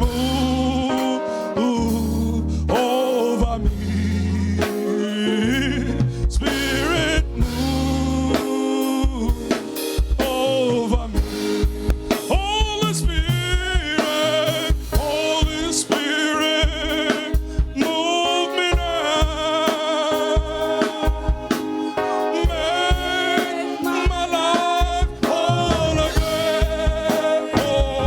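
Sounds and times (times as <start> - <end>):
drum kit beat: 0.0 - 28.0
person singing: 0.0 - 28.0.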